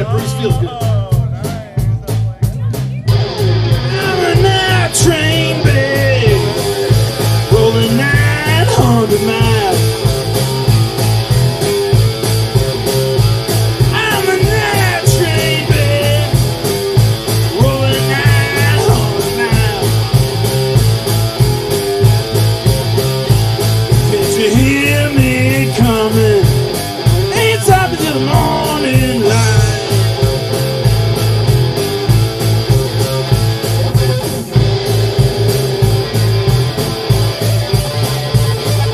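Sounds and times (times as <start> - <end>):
drum kit beat: 0.0 - 38.9
electric bass: 0.0 - 38.9
electric guitar lead: 3.0 - 38.9.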